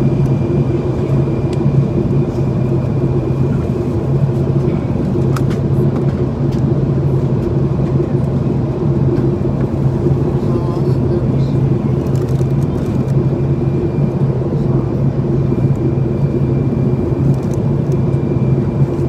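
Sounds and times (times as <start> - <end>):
airplane cabin engine rumble: 0.0 - 19.0
steady low hum: 0.0 - 19.0.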